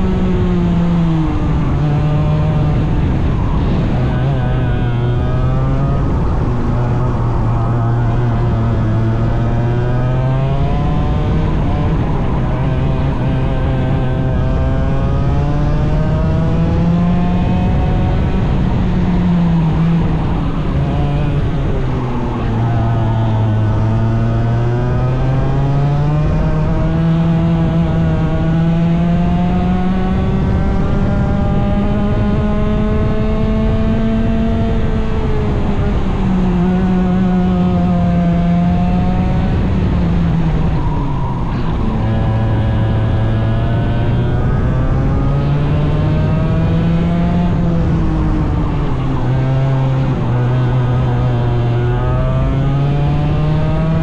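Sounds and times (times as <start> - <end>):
racing engine accelerating: 0.0 - 54.0.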